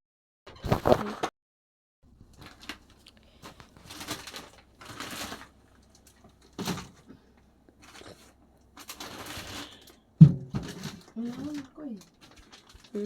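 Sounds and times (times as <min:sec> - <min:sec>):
light knocks and rustles of handling: 0:02.2 - 0:13.0.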